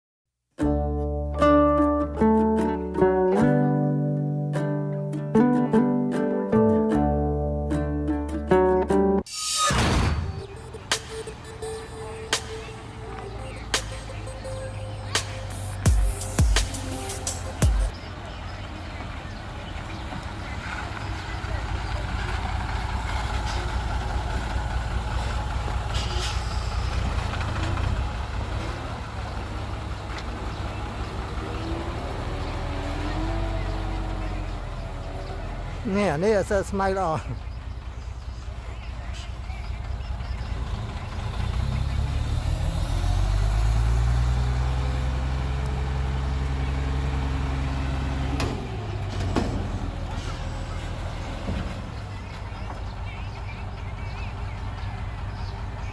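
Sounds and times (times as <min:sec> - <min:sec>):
diesel machinery rumbling: 0:10.0 - 0:55.9.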